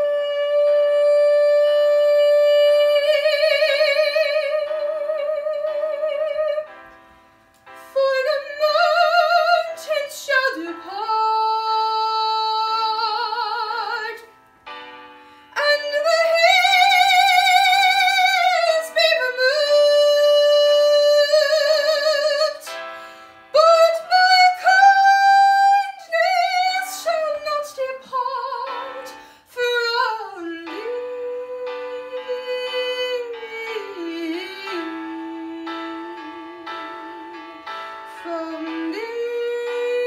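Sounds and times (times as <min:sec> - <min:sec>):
piano accompaniment: 0:00.0 - 0:40.0
woman singing classical: 0:00.0 - 0:40.0.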